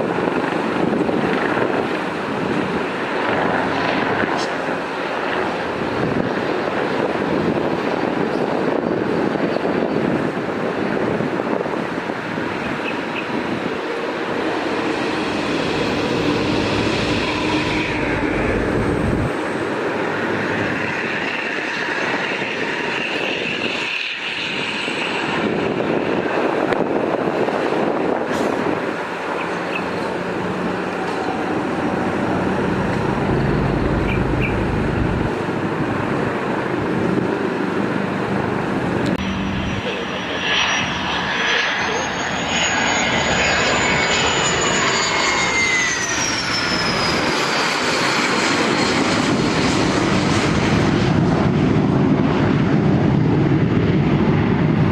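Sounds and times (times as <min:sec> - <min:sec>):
jet aircraft roaring past: 0:00.0 - 0:54.9.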